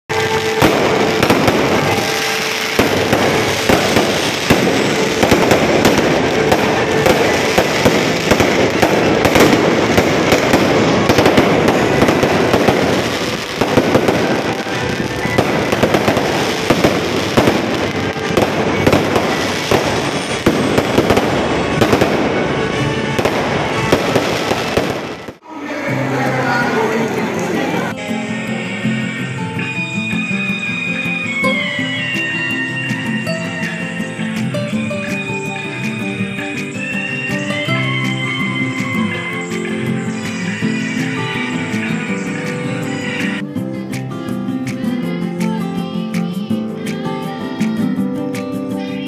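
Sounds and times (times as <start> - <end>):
fireworks crackling and popping: 0.1 - 25.4, 28.6 - 43.5.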